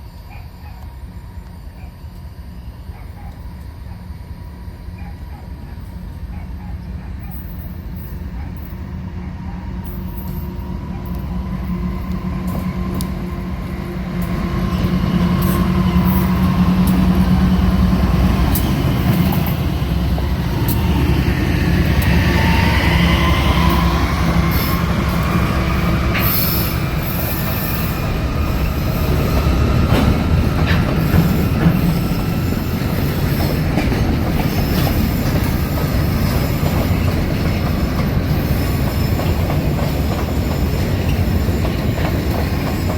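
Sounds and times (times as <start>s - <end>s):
train rumble: 0.0s - 42.9s
wheels squealing on rails: 0.0s - 42.9s.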